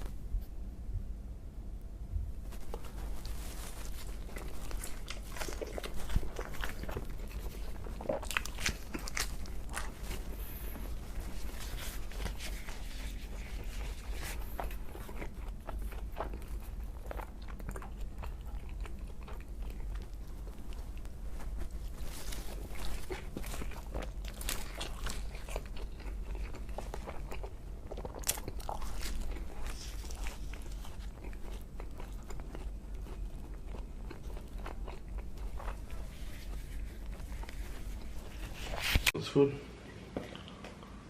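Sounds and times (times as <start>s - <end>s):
crunchy bites and chewing: 2.5s - 39.0s.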